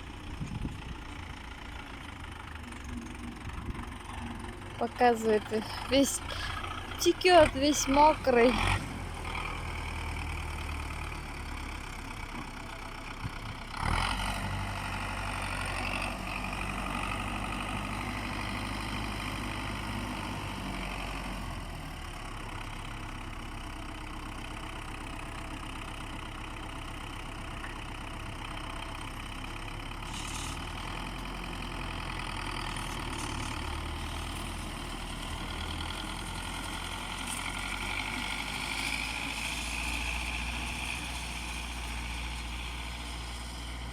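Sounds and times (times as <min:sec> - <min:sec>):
engine running at low speed: 0:00.0 - 0:43.9.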